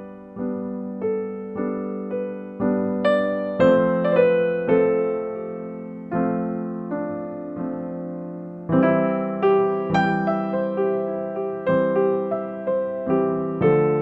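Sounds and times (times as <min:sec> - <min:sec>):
gentle piano playing: 0:00.0 - 0:14.0.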